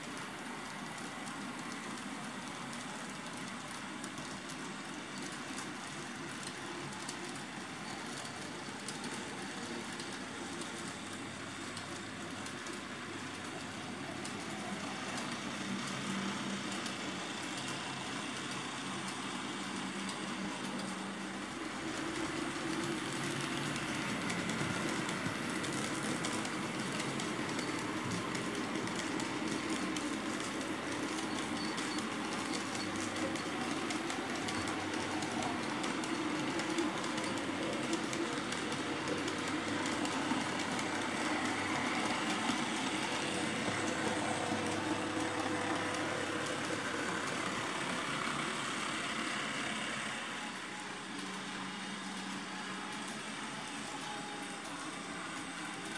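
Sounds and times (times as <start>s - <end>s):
model train wheels clicking on rails: 0.0s - 55.9s.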